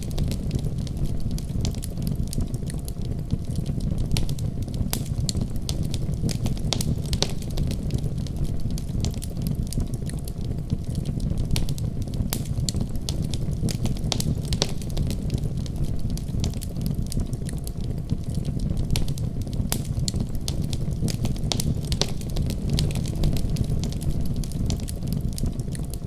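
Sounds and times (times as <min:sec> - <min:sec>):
fire pops and crackles: 0:00.0 - 0:26.0
wood fire roaring: 0:00.0 - 0:26.0.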